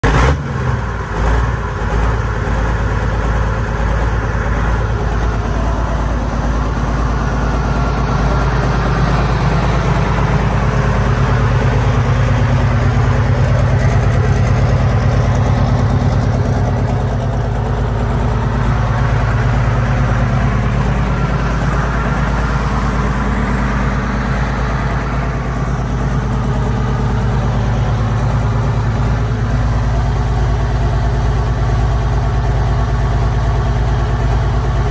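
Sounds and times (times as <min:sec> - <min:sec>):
loud diesel engine idling: 0:00.0 - 0:34.9.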